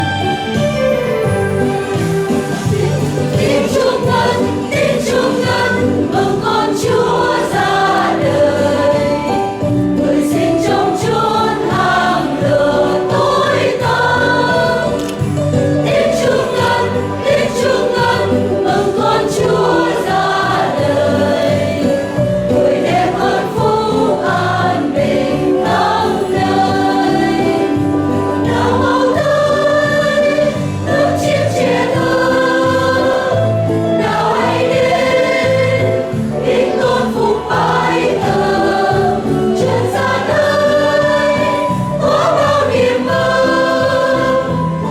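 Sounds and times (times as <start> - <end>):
church choir singing a hymn: 2.3 - 44.9.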